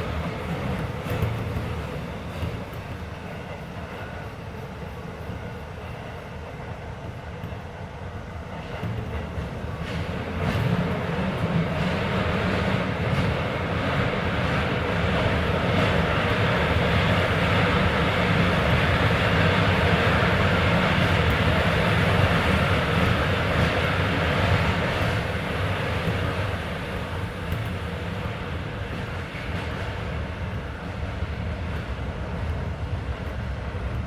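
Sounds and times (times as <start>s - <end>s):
train wheels and motors rumbling: 0.0s - 34.0s.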